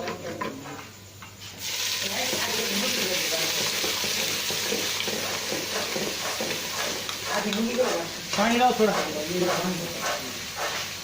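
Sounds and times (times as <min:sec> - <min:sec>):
food sizzling in hot oil: 0:01.4 - 0:11.0.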